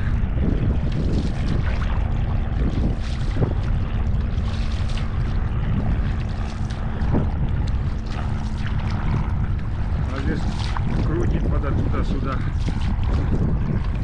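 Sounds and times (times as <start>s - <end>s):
moving water: 0.0s - 14.0s
paddle splashes: 0.0s - 14.0s
wind rumbling on microphone: 0.0s - 14.0s.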